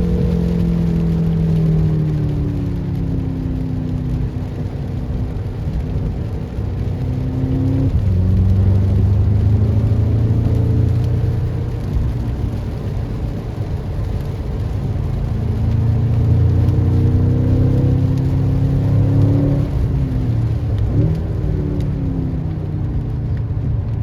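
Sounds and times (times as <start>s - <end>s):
car engine revving under load: 0.0s - 24.0s.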